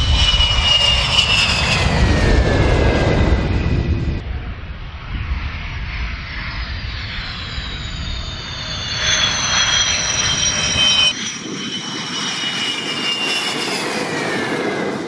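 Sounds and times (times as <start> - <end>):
jet engine whine and rumble: 0.0 - 15.0.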